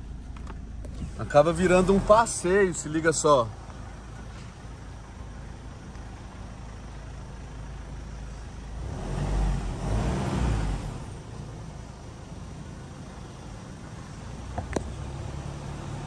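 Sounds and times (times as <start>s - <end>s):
vehicle engine and tyres rumbling: 0.0s - 16.0s.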